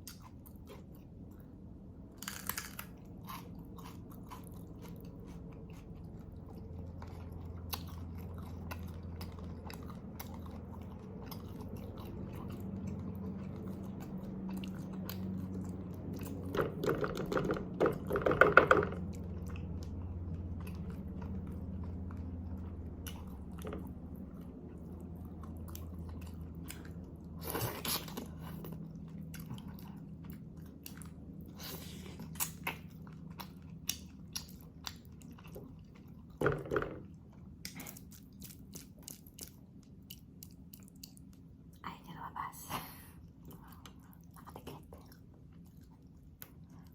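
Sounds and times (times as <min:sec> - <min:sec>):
chewing and biting: 0:00.0 - 0:36.4, 0:37.0 - 0:41.8, 0:43.4 - 0:46.9.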